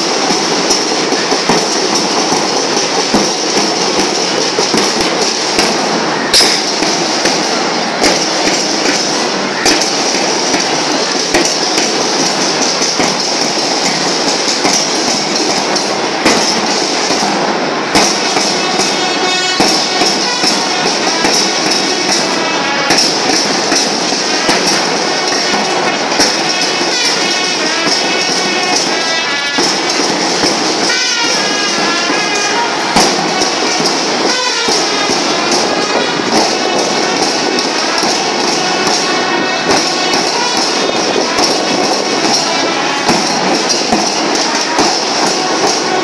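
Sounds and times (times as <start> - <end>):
cymbals ringing: 0.0 - 46.0
marching band drumming: 0.0 - 46.0.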